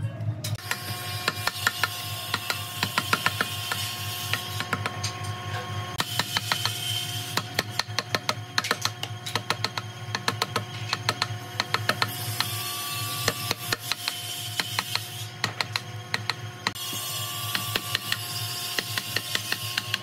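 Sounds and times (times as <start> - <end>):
mallet striking chisel: 0.6 - 5.2, 6.0 - 20.0.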